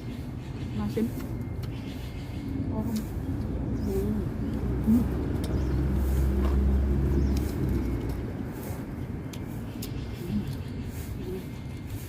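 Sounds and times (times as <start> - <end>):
vehicle engine rumble passing: 0.0 - 12.0.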